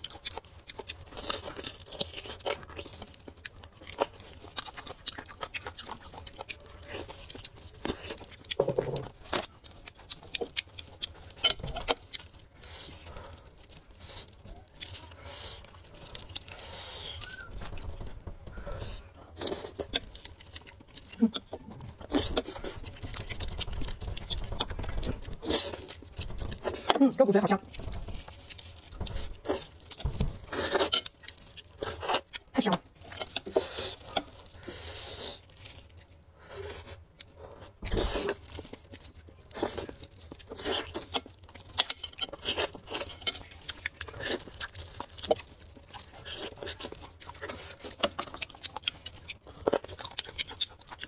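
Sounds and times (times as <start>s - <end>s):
chewing and wet mouth sounds: 0.0s - 51.0s.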